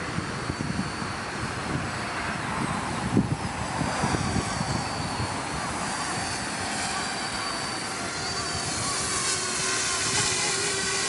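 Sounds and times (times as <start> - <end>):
drone propeller whine: 0.0 - 11.0
wind rumbling on microphone: 0.0 - 11.0.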